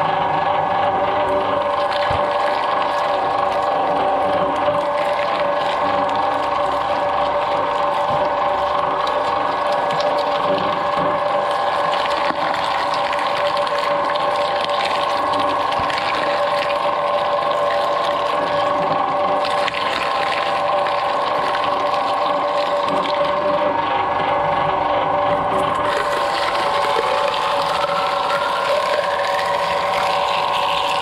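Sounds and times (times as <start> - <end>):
shredder motor whine: 0.0 - 31.0.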